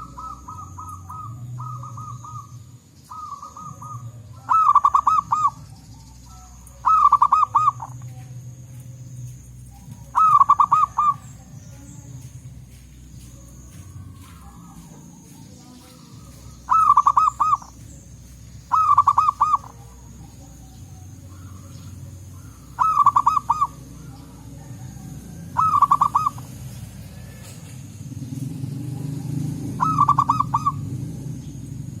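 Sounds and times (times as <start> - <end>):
dove cooing: 0.0 - 8.6, 9.7 - 12.3, 13.2 - 32.0.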